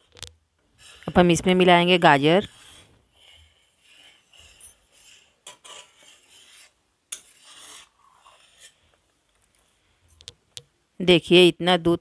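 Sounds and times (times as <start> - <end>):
metal spatula scraping a pan: 0.0 - 10.2.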